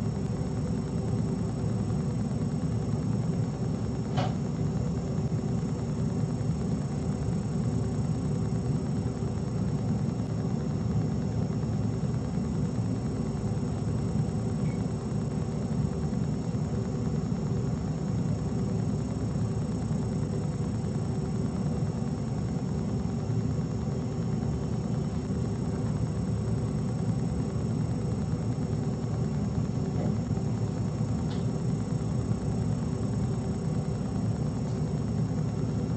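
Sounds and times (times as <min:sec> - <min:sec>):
room hum and hiss: 0:00.0 - 0:35.9.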